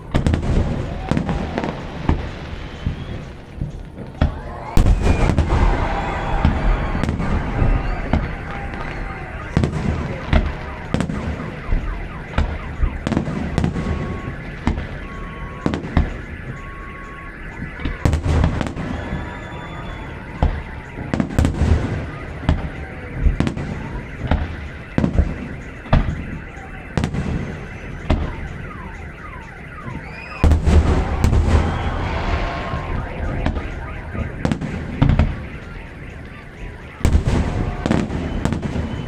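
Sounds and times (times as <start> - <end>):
car alarm: 0.0 - 39.0
fireworks booming and crackling: 0.0 - 39.0.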